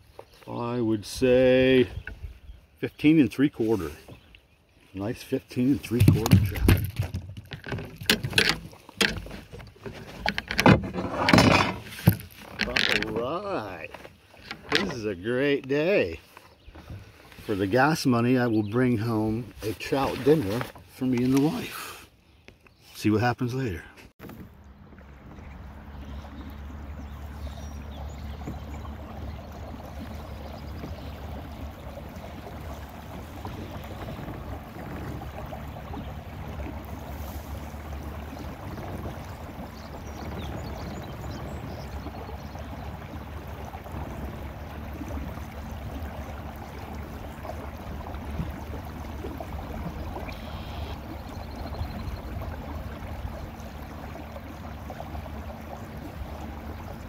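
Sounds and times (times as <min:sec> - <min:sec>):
water splashing along hull: 0:00.0 - 0:57.0.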